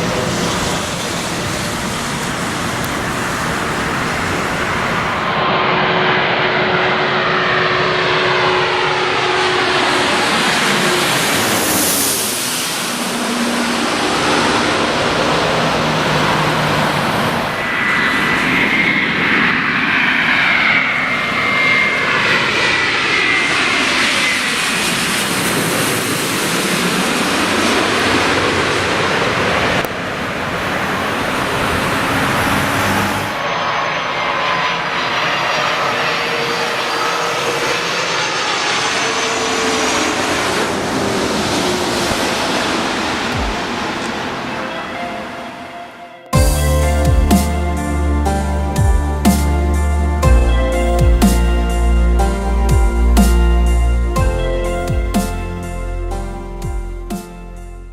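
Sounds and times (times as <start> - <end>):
jet engines passing overhead: 0.0 - 57.7
high whine: 0.0 - 57.9.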